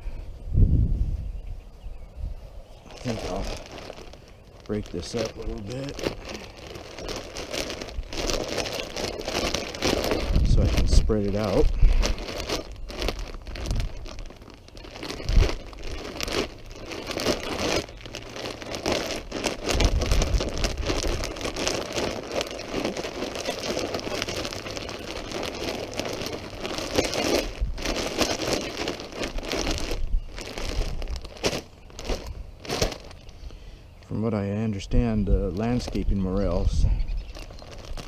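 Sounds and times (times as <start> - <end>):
plastic bag crinkling: 2.8 - 38.0.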